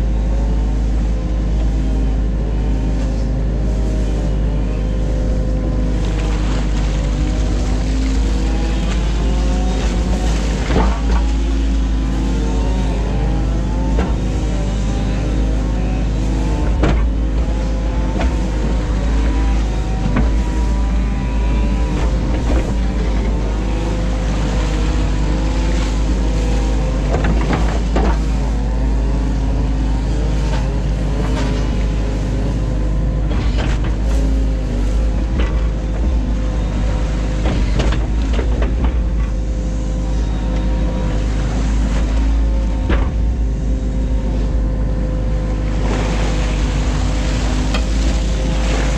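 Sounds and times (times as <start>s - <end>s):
diesel engine under load: 0.0s - 48.9s
hydraulics whining: 0.0s - 48.9s.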